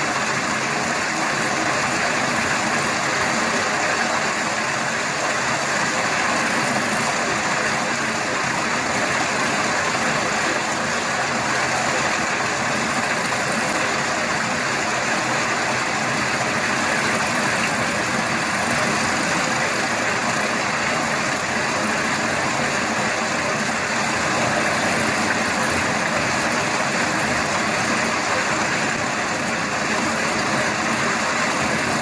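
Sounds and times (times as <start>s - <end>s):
heavy machine engine running: 0.0s - 32.0s.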